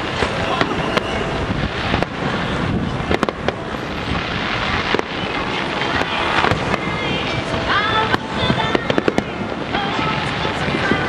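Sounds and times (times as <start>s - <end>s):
fireworks crackling and rumbling: 0.0s - 11.0s
sharp firework bangs: 0.0s - 11.0s.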